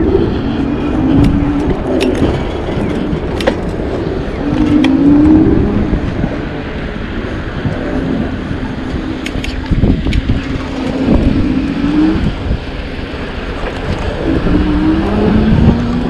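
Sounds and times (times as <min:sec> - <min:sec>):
low wind: 0:00.0 - 0:16.0
rolling tyre rumble: 0:00.0 - 0:16.0.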